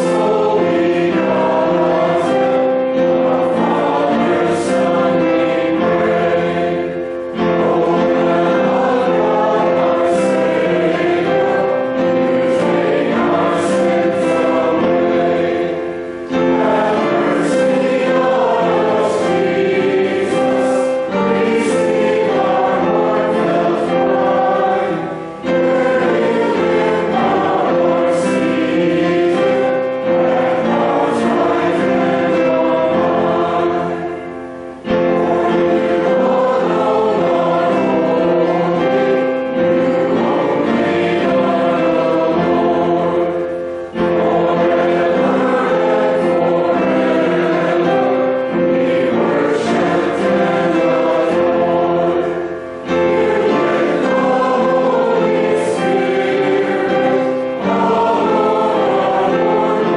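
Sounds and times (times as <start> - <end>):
congregation singing: 0.0 - 59.9.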